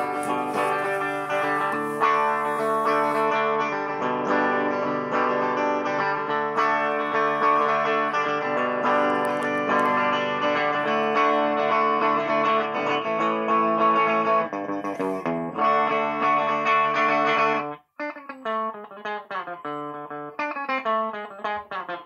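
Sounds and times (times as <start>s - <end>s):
electric guitar picked notes: 0.0s - 22.0s
electric guitar ringing chords: 0.0s - 22.0s.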